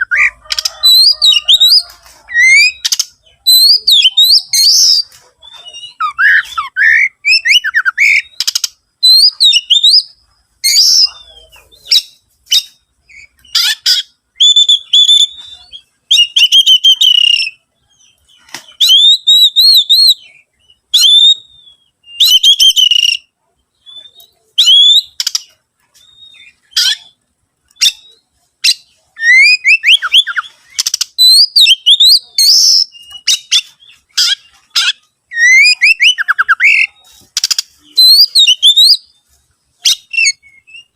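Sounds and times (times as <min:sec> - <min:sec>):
bird singing loudly: 0:00.0 - 0:27.2, 0:27.8 - 0:39.2, 0:39.8 - 0:40.9.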